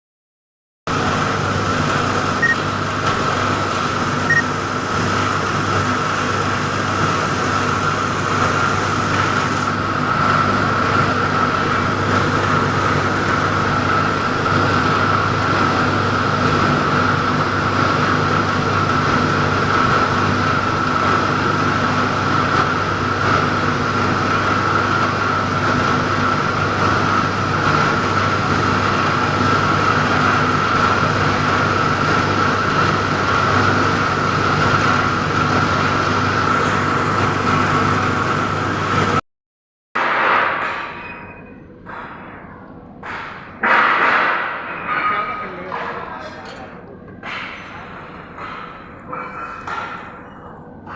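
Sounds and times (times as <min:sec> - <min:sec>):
furnace burner and blower noise: 0:00.9 - 0:39.2, 0:40.0 - 0:50.9.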